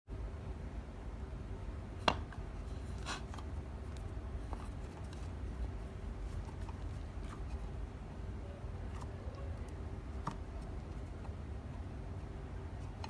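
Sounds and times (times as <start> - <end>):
steady low hum: 0.1 - 13.0
scratchy handling sounds: 2.3 - 13.0.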